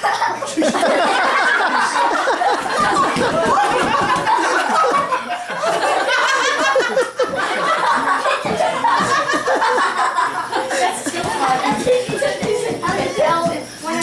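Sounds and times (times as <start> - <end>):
group of people laughing: 0.0 - 12.6.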